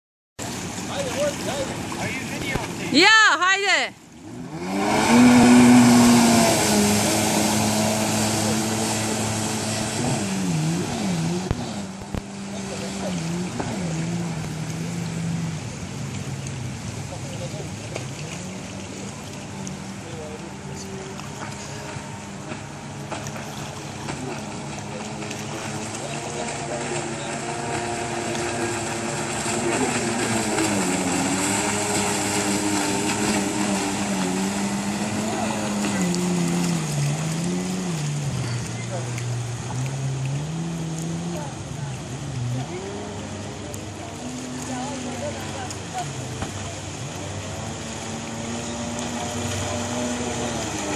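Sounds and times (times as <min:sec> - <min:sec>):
jet ski engine revving: 0:00.4 - 0:50.9.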